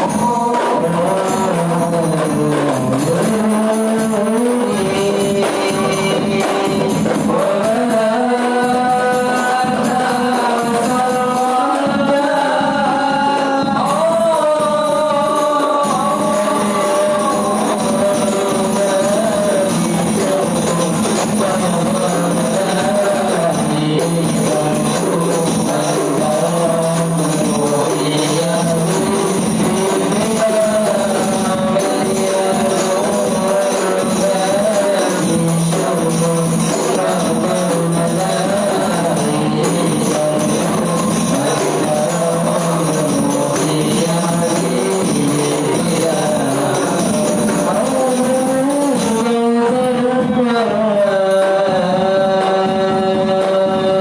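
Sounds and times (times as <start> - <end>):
frame drums in steady rhythm: 0.0 - 54.0
group of voices singing: 0.0 - 54.0.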